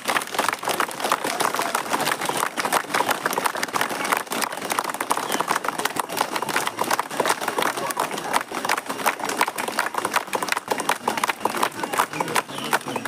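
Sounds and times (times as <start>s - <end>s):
crowd clapping: 0.0s - 13.0s
people chattering: 0.0s - 13.0s.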